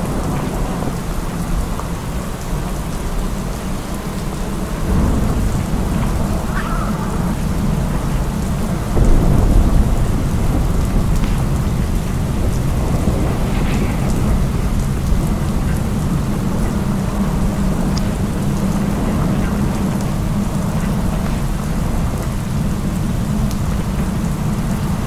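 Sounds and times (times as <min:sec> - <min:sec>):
rain and tyres on wet pavement: 0:00.0 - 0:25.0
wind buffeting microphone: 0:00.0 - 0:25.0.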